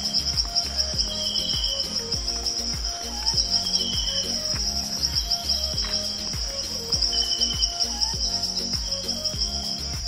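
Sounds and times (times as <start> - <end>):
background music with drum beat: 0.0 - 10.0
insect chorus chirping: 0.0 - 10.0.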